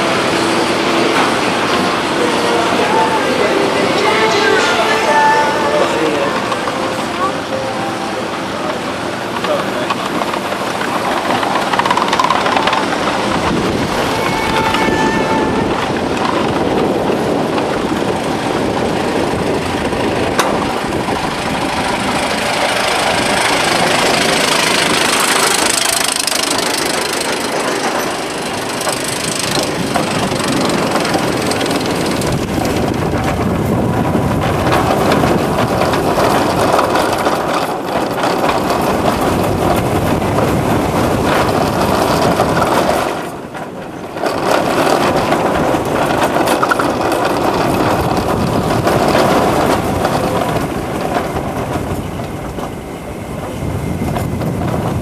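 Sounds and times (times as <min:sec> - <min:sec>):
roller coaster wheels rumbling: 0:00.0 - 0:55.0
wind on microphone: 0:00.0 - 0:55.0.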